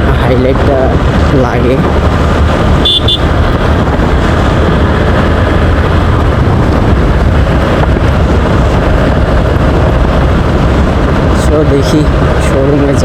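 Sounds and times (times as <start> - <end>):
motorcycle engine and road rumble: 0.0 - 13.0
wind buffeting microphone: 0.0 - 13.0.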